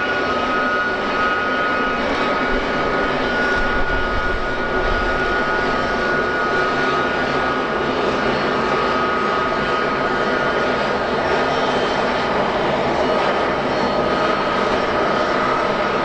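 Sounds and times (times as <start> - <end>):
jet engines whining and rushing: 0.0 - 16.0.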